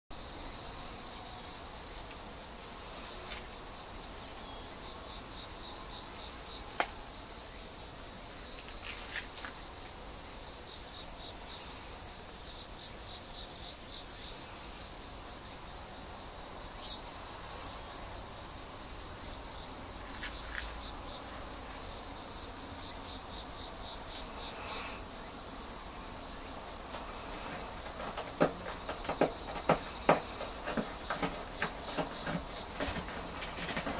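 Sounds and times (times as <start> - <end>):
insects chirring: 0.2 - 33.9.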